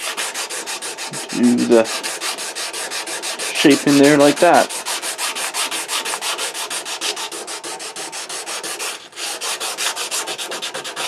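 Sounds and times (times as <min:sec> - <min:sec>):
sandpaper rubbing back and forth: 0:00.0 - 0:11.0.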